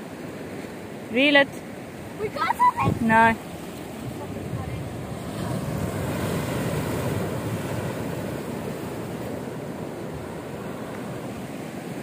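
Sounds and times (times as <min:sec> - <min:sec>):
surf washing over rocks: 0:00.0 - 0:12.0
sea waves breaking on rocks: 0:01.9 - 0:12.0.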